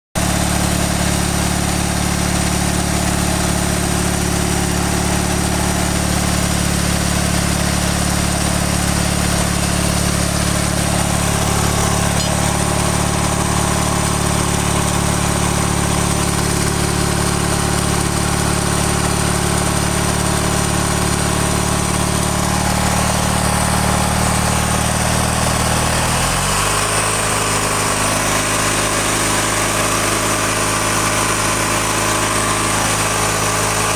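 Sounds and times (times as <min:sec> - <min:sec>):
mower engine idling: 0:00.2 - 0:33.9.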